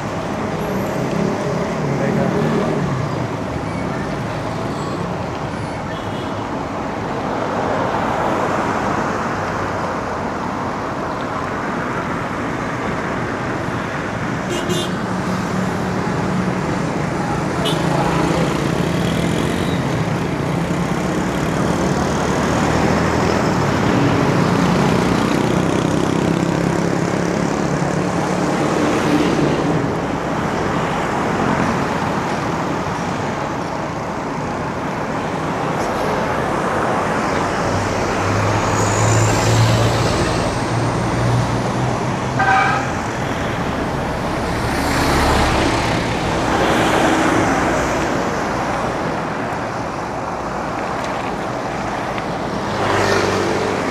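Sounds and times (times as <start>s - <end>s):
passing vehicle engines: 0.0s - 53.9s.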